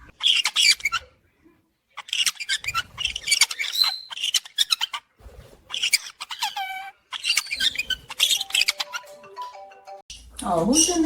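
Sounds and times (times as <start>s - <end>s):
parrots squawking: 0.0s - 1.2s, 1.9s - 9.5s, 10.6s - 11.0s.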